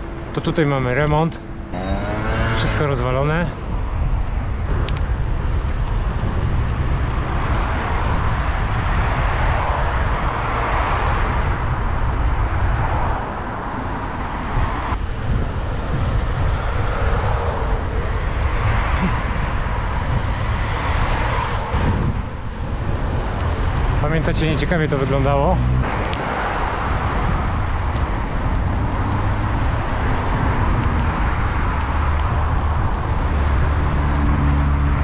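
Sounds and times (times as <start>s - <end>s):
cars passing: 0.0s - 35.0s
wind rumble on microphone: 0.0s - 35.0s.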